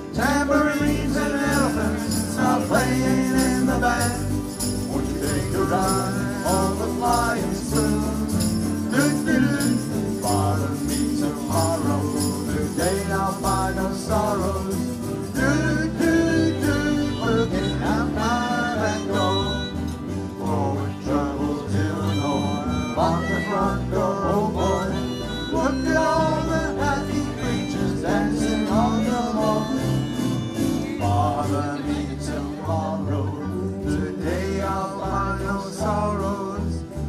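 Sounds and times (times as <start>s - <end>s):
acoustic country-rock band playing: 0.0s - 37.0s.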